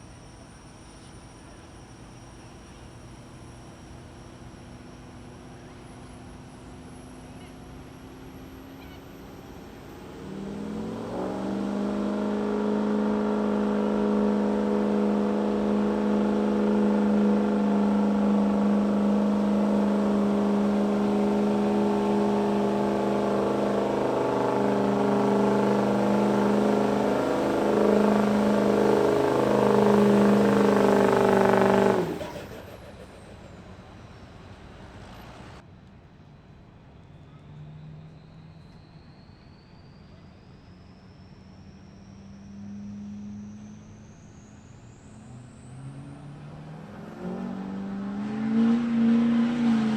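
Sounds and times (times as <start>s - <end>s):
diesel truck engine at full throttle: 0.0s - 35.6s, 37.0s - 49.9s.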